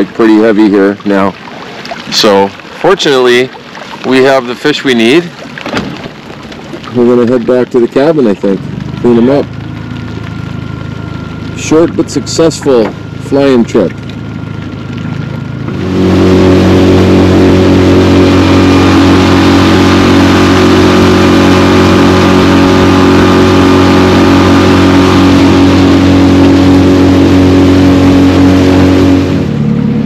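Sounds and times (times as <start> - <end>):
outboard motor droning: 0.0 - 30.0.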